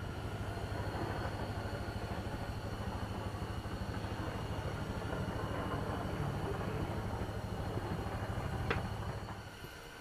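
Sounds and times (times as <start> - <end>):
faint high whine: 0.0 - 10.0
low mechanical hum: 0.0 - 10.0.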